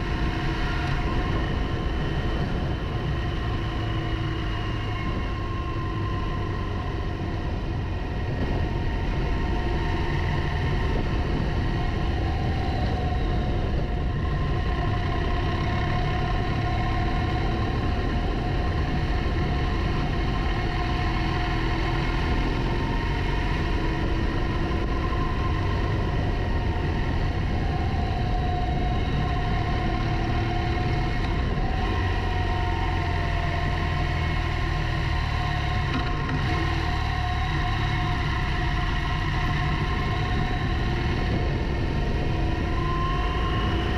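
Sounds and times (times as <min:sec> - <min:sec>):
motorcycle engine running: 0:00.0 - 0:43.9
road rumble: 0:00.0 - 0:43.9
wind rumble: 0:00.0 - 0:43.9.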